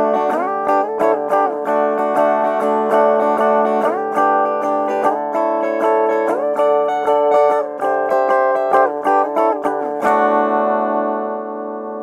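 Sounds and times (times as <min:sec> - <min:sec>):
plucked-string instrumental music: 0:00.0 - 0:12.0.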